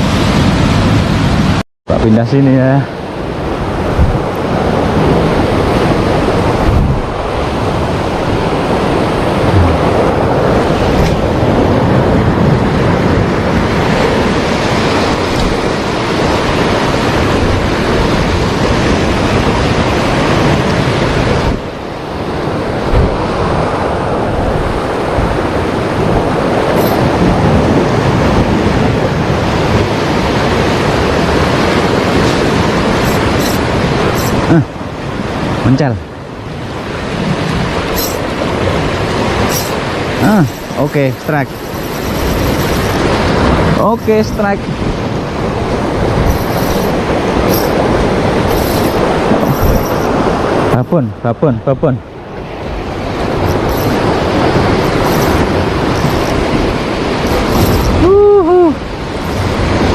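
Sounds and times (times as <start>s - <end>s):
surf breaking on shore: 0.0s - 59.9s
wind on microphone: 2.9s - 51.3s, 52.0s - 59.9s.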